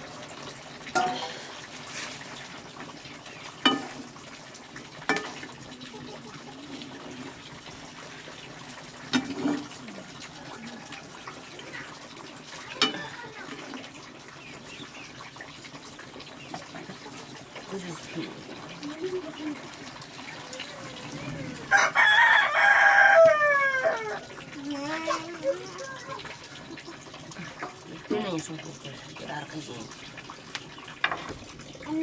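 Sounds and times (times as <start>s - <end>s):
water running and splashing: 0.0s - 32.0s.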